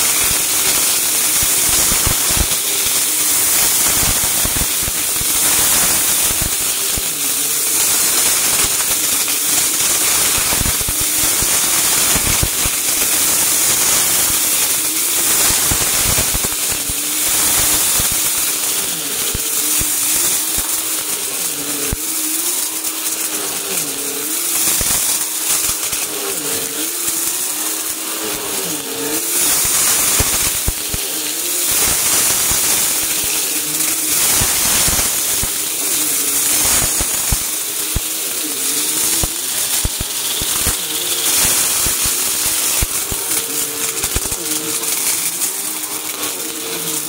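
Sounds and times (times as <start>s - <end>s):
debris crackling up vacuum: 0.0s - 47.0s
vacuum cleaner motor hum: 0.0s - 47.0s.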